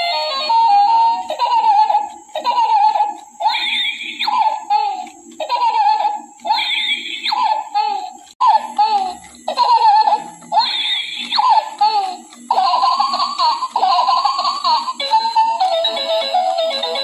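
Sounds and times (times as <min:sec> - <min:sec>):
electronic toy tune: 0:00.0 - 0:17.0
toy baby giggles: 0:00.0 - 0:17.0.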